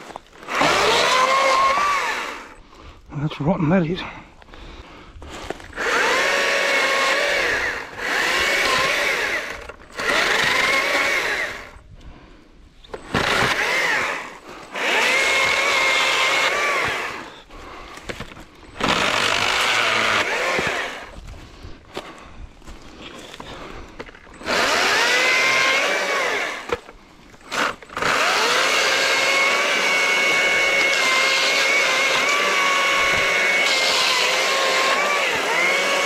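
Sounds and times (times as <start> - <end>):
electric chainsaw cutting wood: 0.0 - 2.6, 5.6 - 11.8, 12.9 - 21.3, 23.2 - 36.0.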